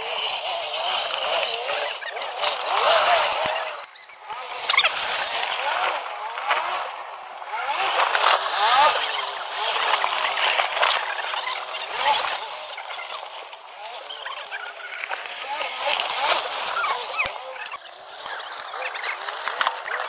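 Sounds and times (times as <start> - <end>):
off-road engine revving: 0.0 - 20.0.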